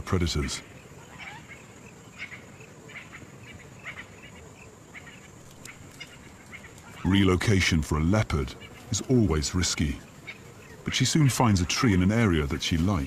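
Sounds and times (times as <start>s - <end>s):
birds chirping: 0.0s - 13.0s
faint steady background noise: 0.0s - 13.0s.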